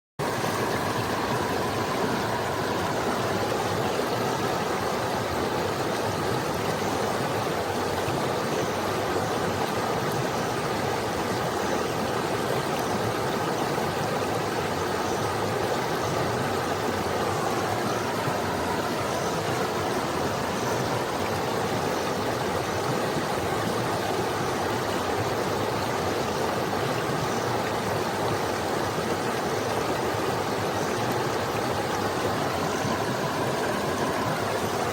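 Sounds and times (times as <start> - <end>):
stream flowing over rocks: 0.2 - 34.9.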